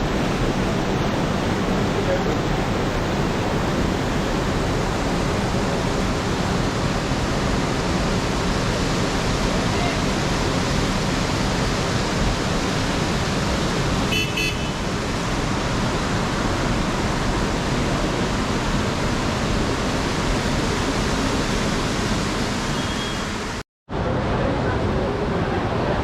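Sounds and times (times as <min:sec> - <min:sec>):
fast-flowing river water: 0:00.0 - 0:26.0.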